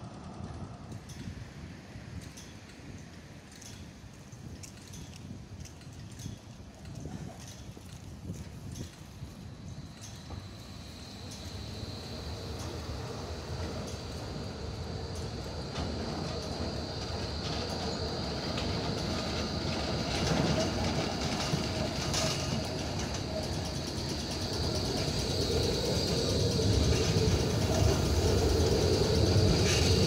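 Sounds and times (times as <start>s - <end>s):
tram wheels on rails: 0.0s - 30.0s.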